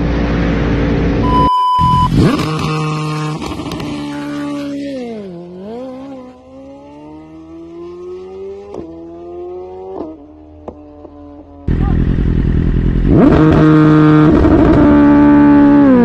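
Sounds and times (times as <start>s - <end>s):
motorcycle engine at high revs: 2.0s - 16.0s.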